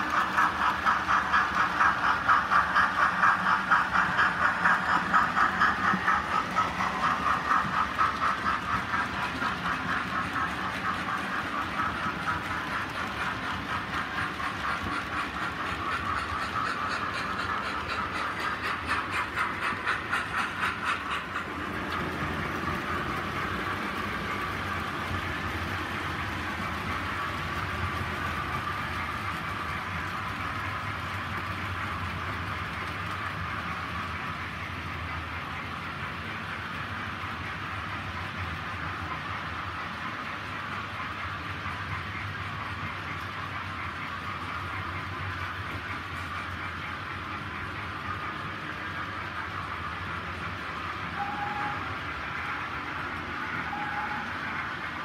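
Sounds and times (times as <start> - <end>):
model train wheels clicking on rails: 0.0 - 55.0
model trains humming: 0.0 - 55.0.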